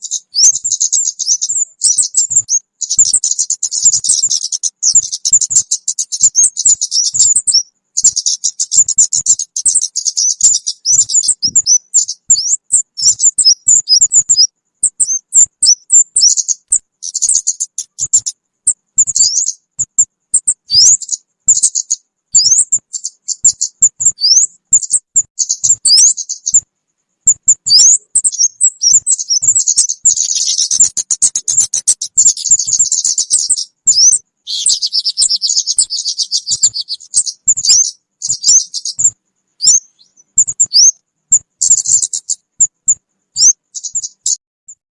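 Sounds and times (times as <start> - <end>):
birds chirping and trilling: 0.0 - 44.8.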